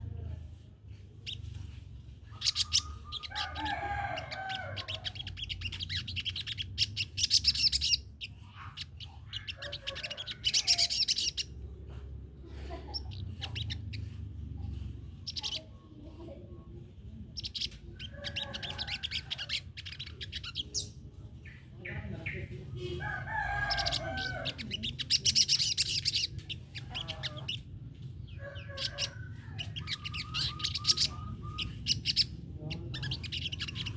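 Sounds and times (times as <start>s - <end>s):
songbird chirping song: 0.0s - 33.9s.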